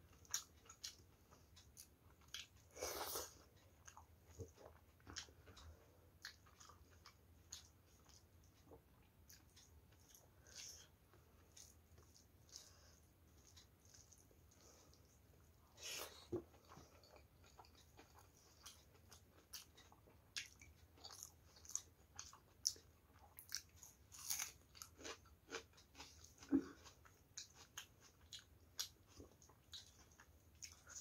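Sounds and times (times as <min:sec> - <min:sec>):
chewing food: 0:00.0 - 0:31.0.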